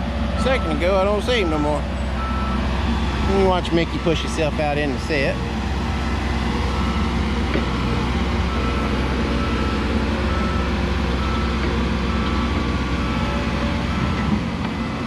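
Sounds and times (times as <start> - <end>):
diesel truck engine running: 0.0 - 15.0
reversing alarm beeping: 0.1 - 15.0.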